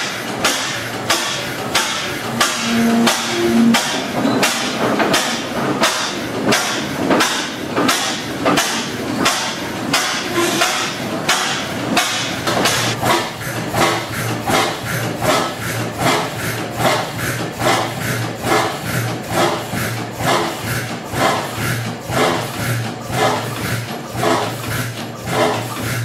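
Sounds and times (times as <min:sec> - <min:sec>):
single-cylinder engine beating slowly: 0:00.0 - 0:26.0.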